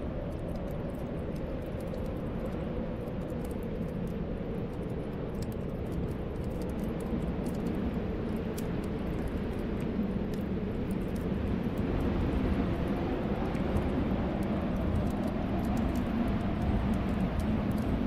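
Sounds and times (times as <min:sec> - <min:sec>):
wind blowing and whistling: 0:00.0 - 0:18.0
wood fire crackling: 0:00.0 - 0:18.0.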